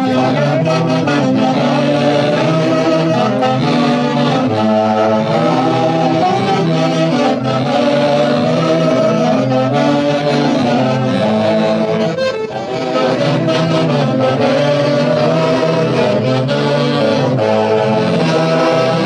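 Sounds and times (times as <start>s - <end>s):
band playing lively tune: 0.0s - 19.0s
saxophones playing melody: 0.0s - 19.0s
steady bass line: 0.0s - 19.0s.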